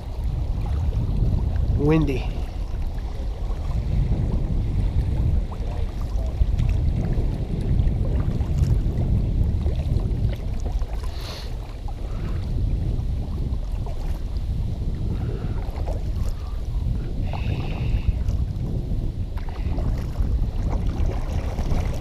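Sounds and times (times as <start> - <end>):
kayak paddle splashing water: 0.0 - 22.0
wind buffeting microphone: 0.0 - 22.0.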